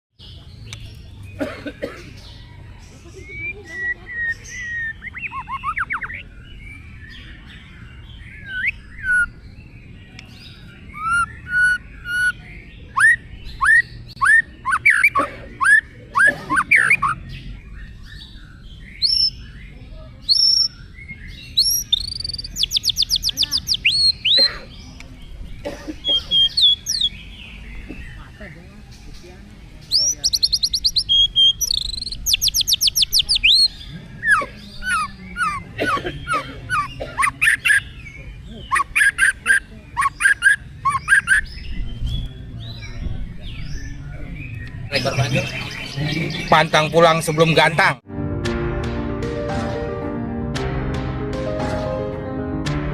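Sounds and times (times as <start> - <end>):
songbird singing: 0.2 - 48.0.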